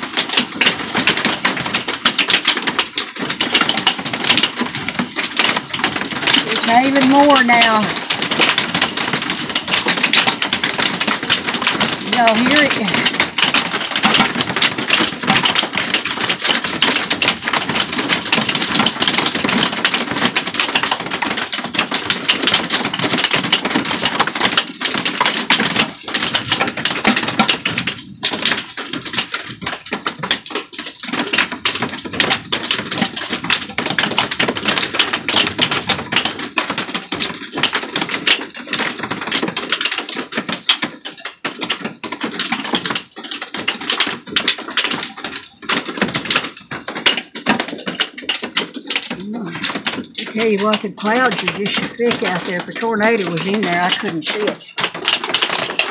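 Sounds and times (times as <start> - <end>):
hail and rain on a roof: 0.0 - 55.9.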